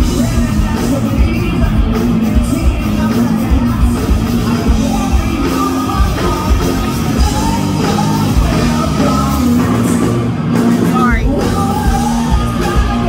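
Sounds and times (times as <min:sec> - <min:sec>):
distorted electric guitars: 0:00.0 - 0:13.0
drums: 0:00.0 - 0:13.0.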